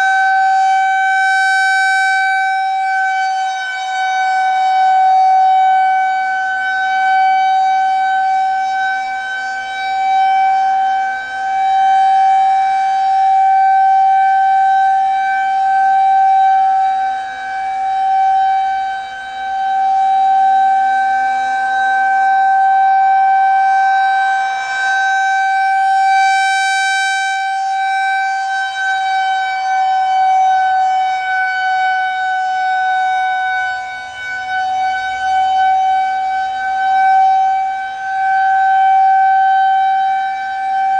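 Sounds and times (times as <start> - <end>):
rotating warning siren steady tone: 0.0 - 40.9.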